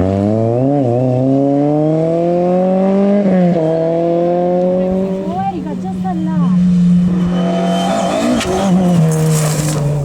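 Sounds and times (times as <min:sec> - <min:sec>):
rally car engine accelerating: 0:00.0 - 0:10.0.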